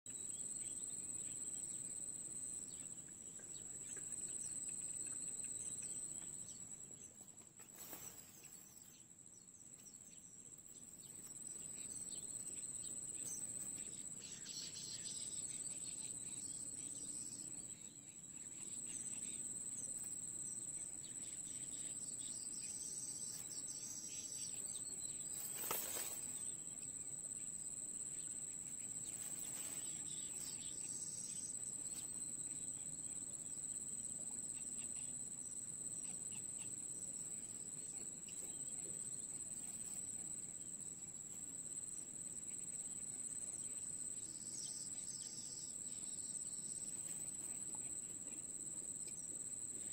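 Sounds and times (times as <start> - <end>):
insects trilling: 0.1 - 49.9.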